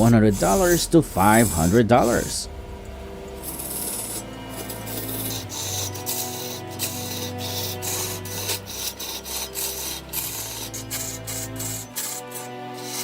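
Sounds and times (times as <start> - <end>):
background music: 0.0 - 13.0
lathe tool scraping wood: 0.0 - 13.0.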